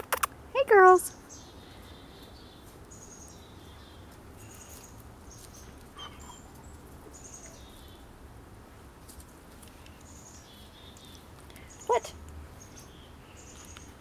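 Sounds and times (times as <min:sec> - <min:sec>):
low outdoor rumble: 0:00.0 - 0:14.0
small birds chirping: 0:00.1 - 0:14.0.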